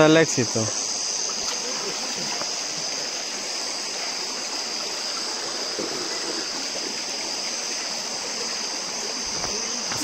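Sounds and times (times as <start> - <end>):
night insects chorus: 0.0 - 10.0
water rushing over rocks: 0.0 - 10.0.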